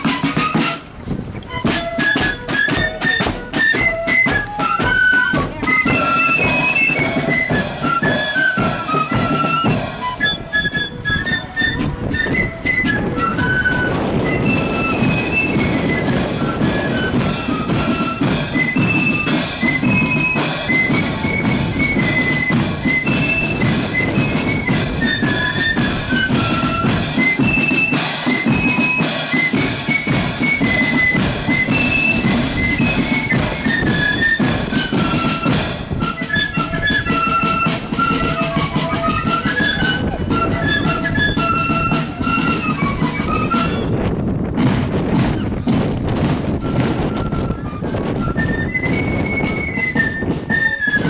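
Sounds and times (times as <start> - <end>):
steady drum beat: 0.0 - 10.2, 11.4 - 47.2
flutes playing march melody: 0.0 - 51.0.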